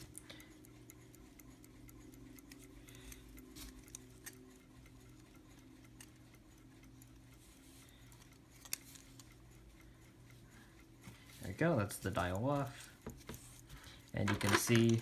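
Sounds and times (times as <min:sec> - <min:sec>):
pocket watch ticking: 0:00.0 - 0:15.0
screwdriver clicking on watch dial: 0:00.0 - 0:15.0.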